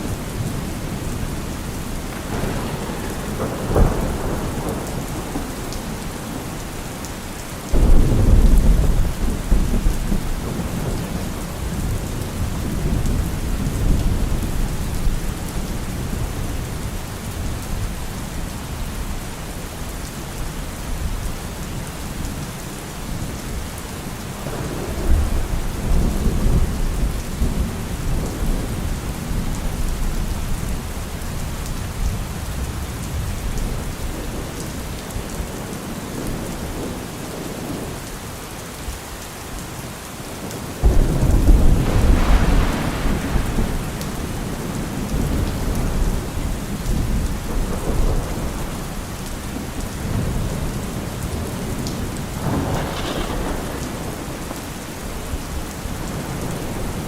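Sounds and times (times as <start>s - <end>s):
thunder rumbling and clapping: 0.0s - 18.2s, 24.4s - 38.1s, 40.8s - 57.0s
steady rain: 0.0s - 57.0s.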